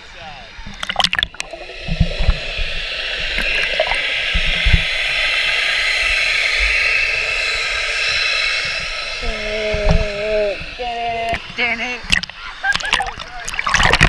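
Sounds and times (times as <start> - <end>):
underwater rush of water: 0.5 - 14.0
water splashing: 0.5 - 14.0.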